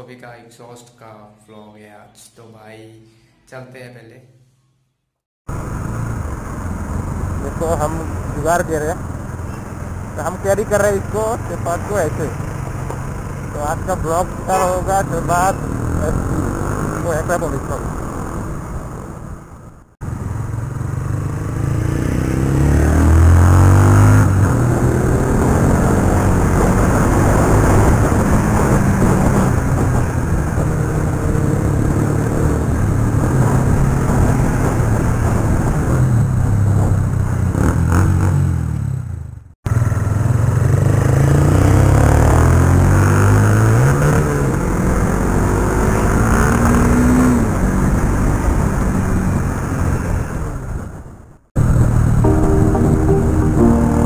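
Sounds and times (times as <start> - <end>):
motorcycle engine accelerating: 5.5 - 50.9.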